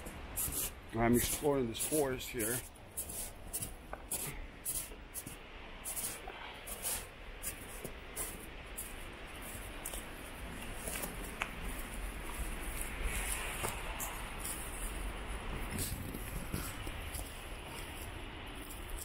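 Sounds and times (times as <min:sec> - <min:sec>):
footsteps through undergrowth: 0:00.0 - 0:19.0.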